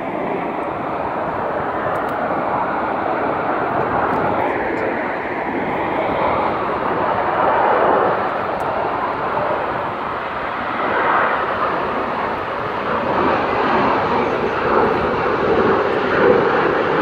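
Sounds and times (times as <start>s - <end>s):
jets roaring overhead: 0.0s - 17.0s.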